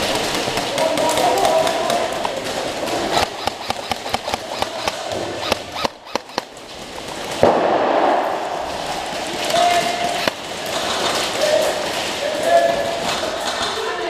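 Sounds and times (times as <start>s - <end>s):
airsoft guns firing: 0.0s - 13.7s
loud crack: 0.0s - 13.8s.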